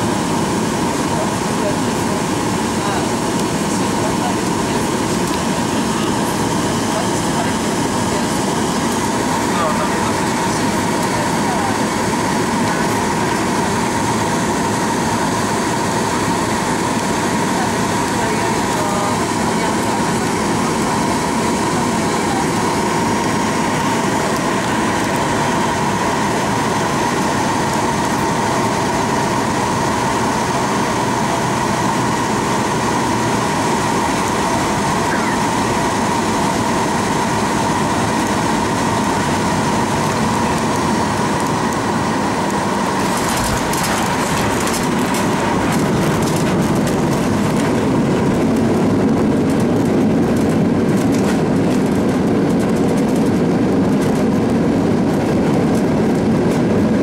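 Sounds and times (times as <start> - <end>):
jet engines whining: 0.0 - 57.0
wheels rumbling on runway: 0.0 - 57.0.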